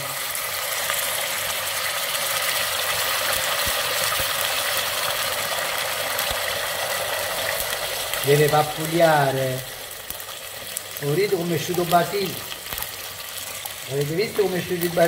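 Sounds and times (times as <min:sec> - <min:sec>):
meatballs sizzling in oil: 0:00.0 - 0:15.0
sauce pouring into hot oil: 0:00.0 - 0:15.0.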